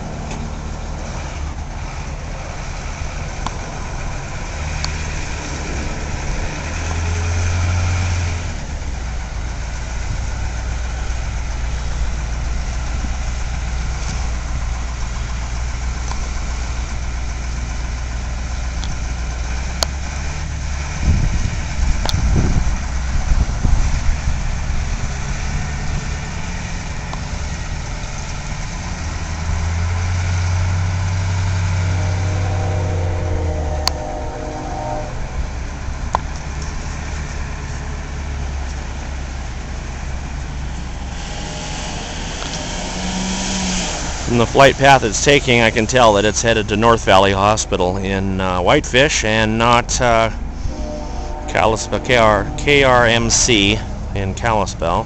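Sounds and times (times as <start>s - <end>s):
low rumbling thumps: 0.0s - 41.2s, 44.0s - 55.0s.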